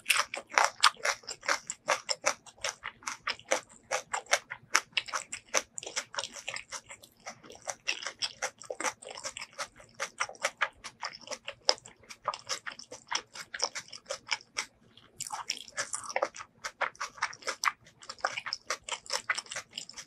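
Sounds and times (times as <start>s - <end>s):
wet mouth chewing clicks: 0.0s - 20.0s.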